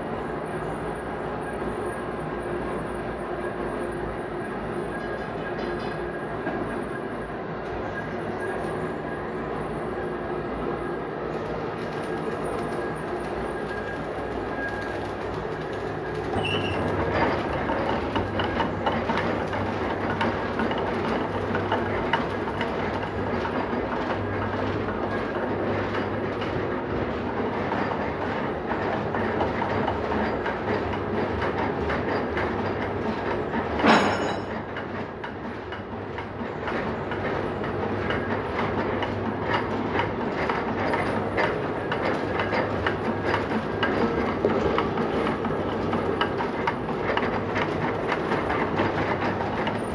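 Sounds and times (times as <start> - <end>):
clattering machine with low hum: 0.0 - 49.9.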